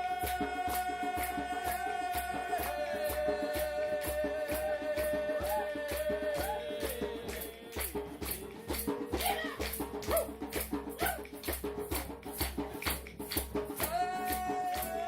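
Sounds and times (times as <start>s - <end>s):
shaker rattling a beat: 0.0s - 15.0s.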